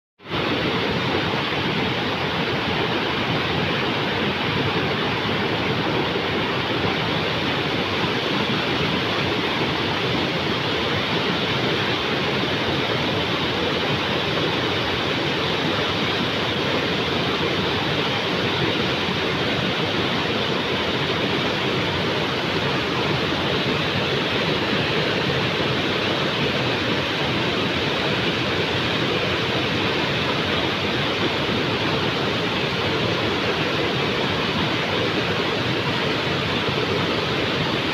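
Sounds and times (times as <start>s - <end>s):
river rushing: 0.2s - 37.9s.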